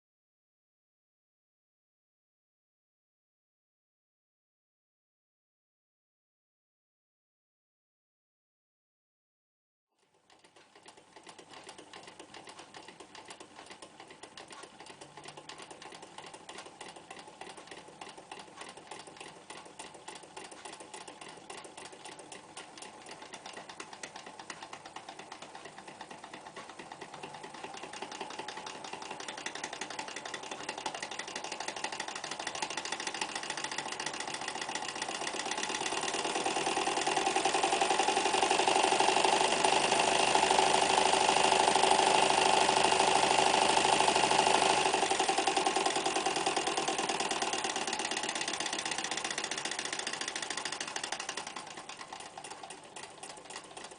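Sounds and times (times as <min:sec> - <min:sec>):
sewing machine clattering: 0:10.0 - 0:53.9.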